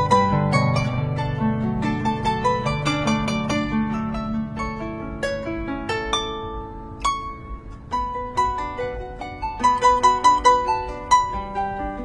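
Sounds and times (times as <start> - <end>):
harp melody of plucked notes: 0.0 - 12.0.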